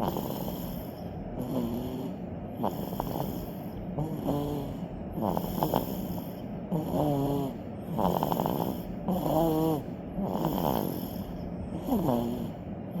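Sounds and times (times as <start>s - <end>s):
baby snoring: 0.0s - 13.0s.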